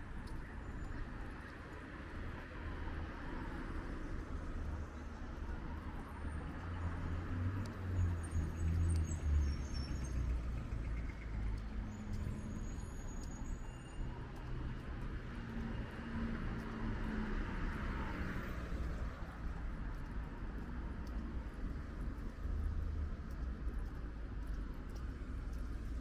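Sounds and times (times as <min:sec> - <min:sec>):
steady traffic hum: 0:00.0 - 0:26.0
vehicles passing: 0:00.0 - 0:26.0.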